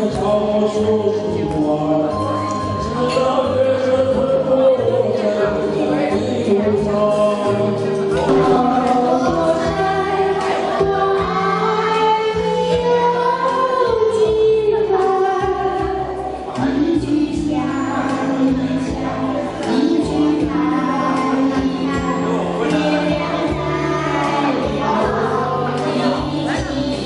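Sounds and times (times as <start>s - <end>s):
backing track music: 0.0s - 27.0s
karaoke singing into microphones: 0.0s - 27.0s.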